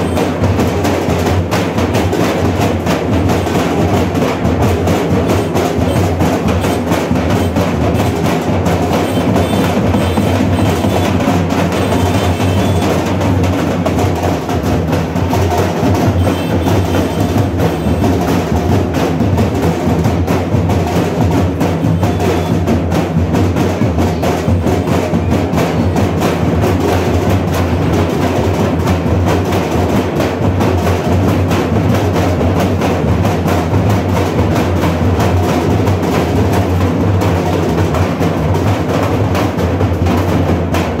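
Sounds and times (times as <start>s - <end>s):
drums beaten in dense rhythm: 0.0s - 41.0s.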